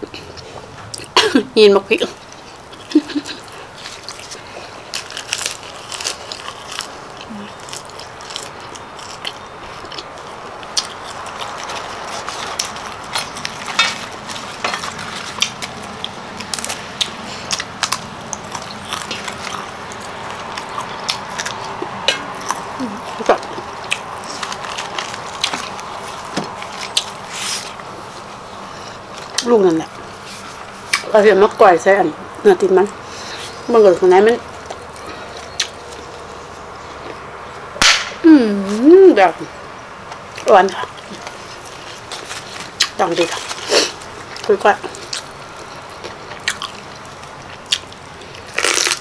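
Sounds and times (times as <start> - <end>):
close chewing with wet smacking: 2.0 - 37.7, 40.0 - 49.0.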